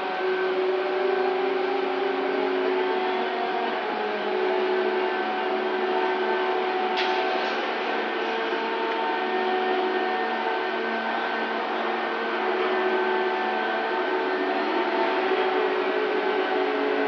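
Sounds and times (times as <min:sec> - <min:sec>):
crane machinery droning: 0:00.0 - 0:17.0.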